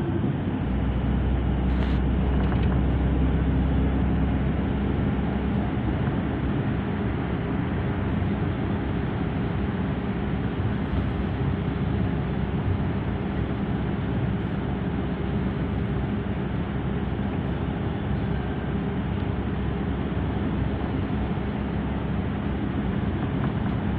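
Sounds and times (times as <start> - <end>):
road noise: 0.0 - 23.9
vehicle engine drone: 0.0 - 23.9.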